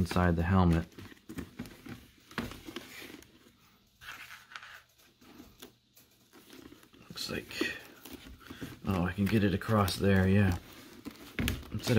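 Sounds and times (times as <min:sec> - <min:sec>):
hands rustling helmet pads: 0:00.0 - 0:11.9.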